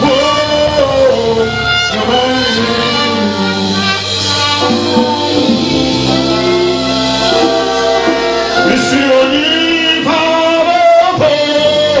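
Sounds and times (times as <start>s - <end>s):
man singing into microphone: 0.0s - 5.5s, 7.4s - 12.0s
band with drums: 0.0s - 12.0s.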